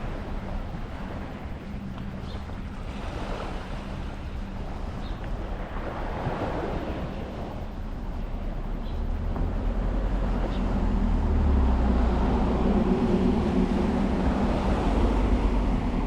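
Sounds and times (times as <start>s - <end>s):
waves washing onto beach: 0.0s - 8.8s, 9.4s - 16.0s
wind rumbling on microphone: 0.0s - 16.0s.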